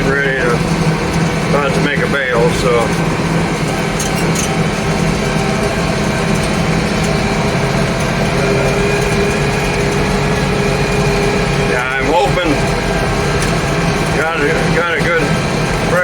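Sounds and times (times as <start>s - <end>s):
baler high whine: 0.0s - 16.0s
tractor engine running: 0.0s - 16.0s.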